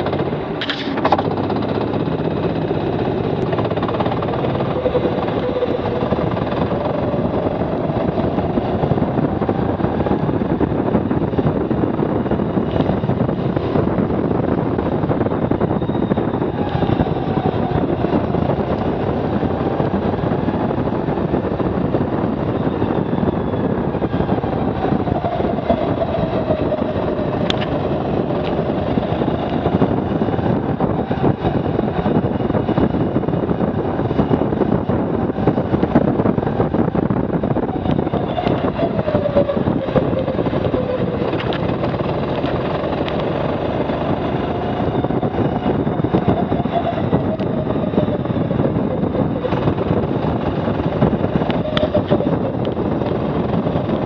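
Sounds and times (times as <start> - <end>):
go-kart engine running hard: 0.0 - 54.0
wind and road noise: 0.0 - 54.0.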